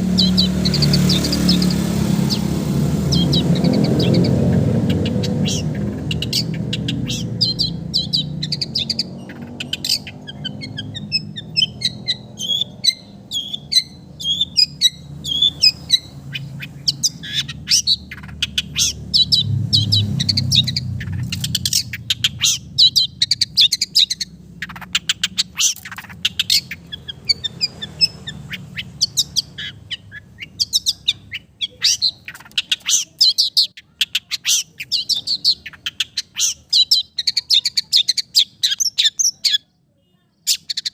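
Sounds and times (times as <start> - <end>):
bird singing sharp chirps: 0.0 - 40.9.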